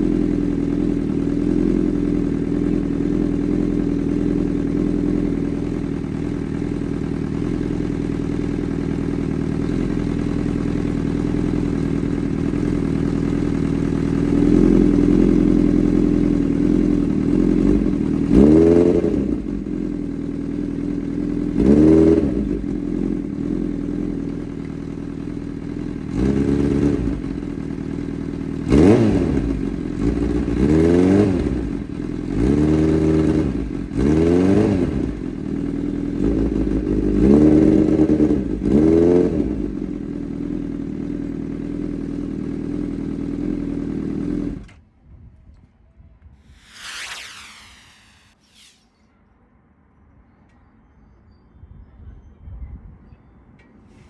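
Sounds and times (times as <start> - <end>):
motorcycle engine idling and revving: 0.0 - 44.4.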